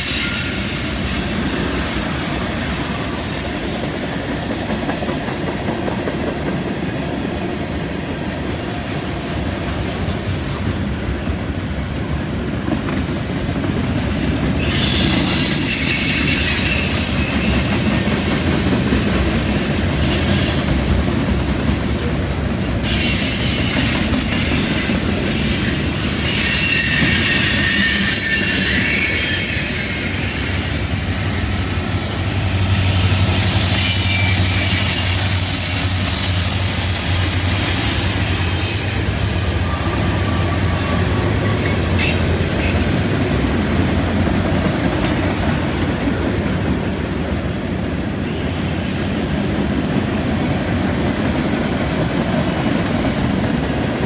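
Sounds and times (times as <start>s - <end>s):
diesel locomotive drone: 0.0s - 54.0s
steel wheels squealing on rails: 0.0s - 54.0s
train rumble and clatter: 0.0s - 54.0s.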